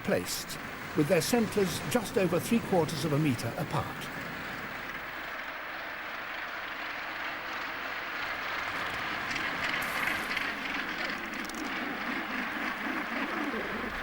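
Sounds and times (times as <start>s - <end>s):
gannet colony calling: 0.0s - 14.0s.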